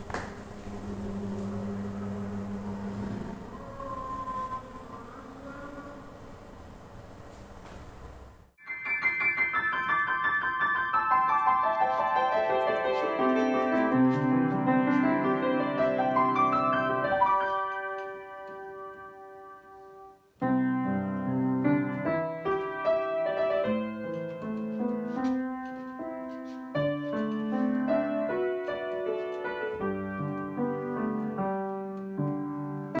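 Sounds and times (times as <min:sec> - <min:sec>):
piano music: 0:00.0 - 0:07.2, 0:08.6 - 0:33.0.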